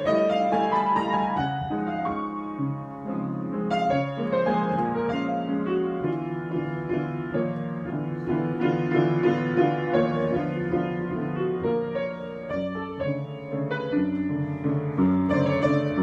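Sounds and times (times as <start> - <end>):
solo piano: 0.0 - 16.0.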